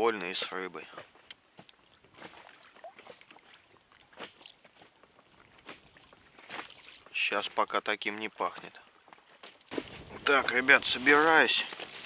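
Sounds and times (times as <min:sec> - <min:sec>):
small waves lapping boat hull: 0:00.0 - 0:12.0.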